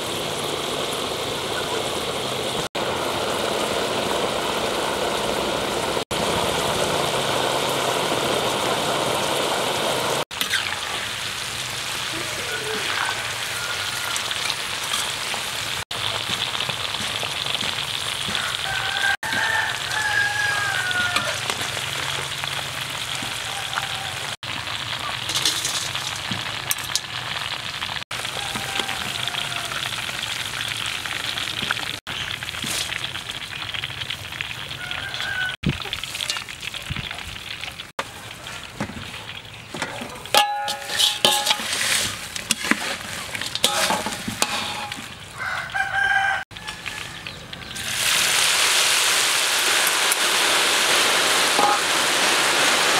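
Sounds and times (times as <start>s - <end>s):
hot oil bubbling and sizzling: 0.0s - 52.9s
oil streaming into wok: 0.0s - 52.9s.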